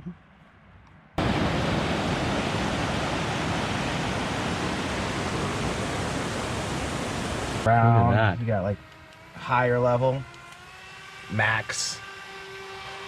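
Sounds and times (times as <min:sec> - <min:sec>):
personal fan rushing: 0:01.2 - 0:12.8.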